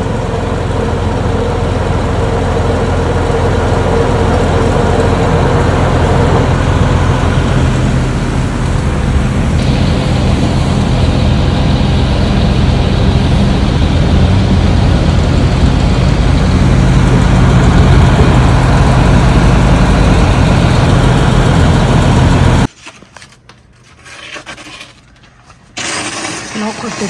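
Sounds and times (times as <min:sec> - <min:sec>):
motor running loudly: 0:00.0 - 0:22.7.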